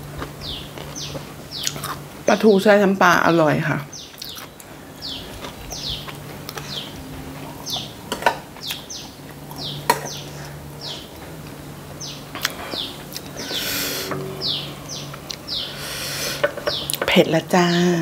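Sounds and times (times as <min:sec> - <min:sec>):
bird chirping: 0:00.4 - 0:01.8, 0:03.9 - 0:11.2, 0:11.9 - 0:18.0.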